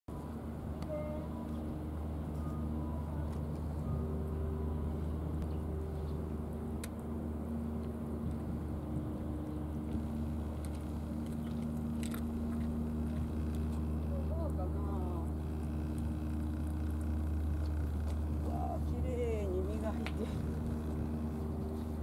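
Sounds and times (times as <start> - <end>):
faint constant hum: 0.1 - 22.0
low mechanical rumble: 0.1 - 22.0.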